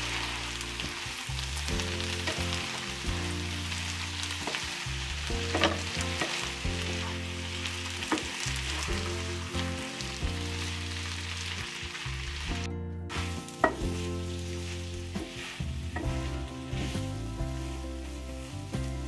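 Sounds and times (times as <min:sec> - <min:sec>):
background music: 0:00.0 - 0:19.0
vegetables sizzling in a frying pan: 0:00.0 - 0:19.0.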